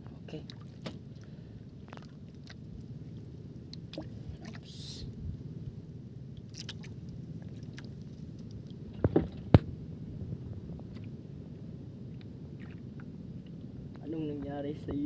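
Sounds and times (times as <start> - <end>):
low rumble of open sea: 0.0 - 15.0.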